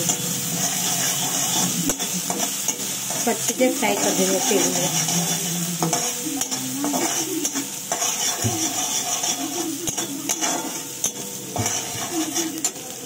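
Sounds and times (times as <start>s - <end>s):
oil sizzling: 0.0s - 13.0s
spatula scraping and knocking a wok: 0.0s - 13.0s.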